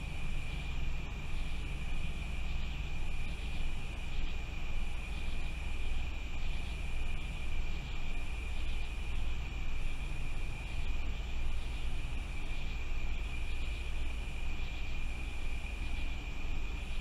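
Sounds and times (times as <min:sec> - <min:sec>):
continuous high-pitched whine: 0:00.0 - 0:17.0.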